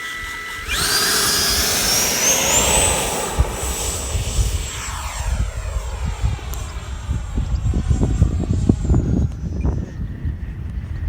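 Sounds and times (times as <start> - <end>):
model jet engine whining: 0.0 - 11.0
wind rumble on microphone: 0.6 - 11.0.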